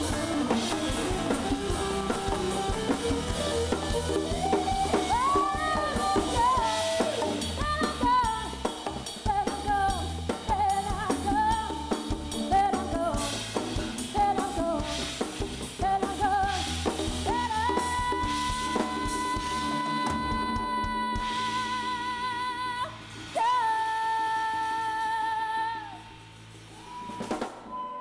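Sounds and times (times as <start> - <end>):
drum kit and cymbals: 0.0 - 28.0
electric guitars: 0.0 - 28.0.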